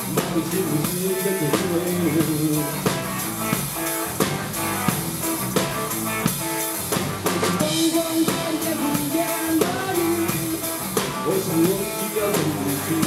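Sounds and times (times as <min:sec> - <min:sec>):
drum kit beat: 0:00.0 - 0:13.0
rock band instrumental: 0:00.0 - 0:13.0.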